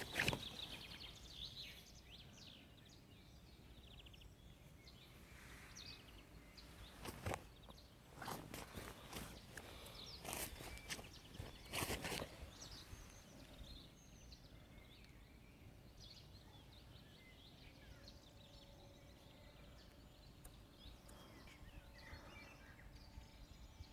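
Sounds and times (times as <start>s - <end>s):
bird chirps: 0.0s - 23.9s
faint outdoor ambience: 0.0s - 23.9s.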